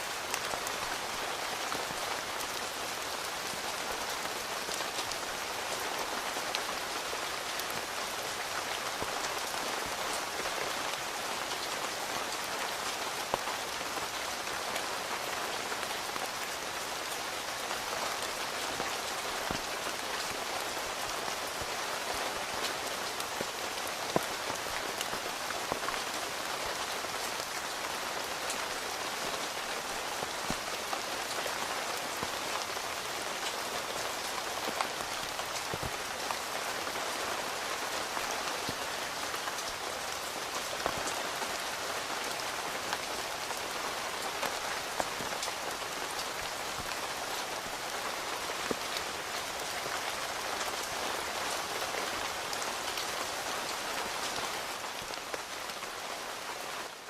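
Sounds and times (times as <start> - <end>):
rain on tent fabric: 0.0 - 57.0.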